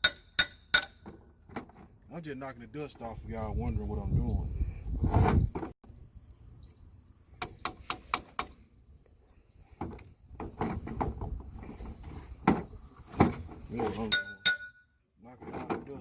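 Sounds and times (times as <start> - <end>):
faint insect chirr: 1.2 - 16.0.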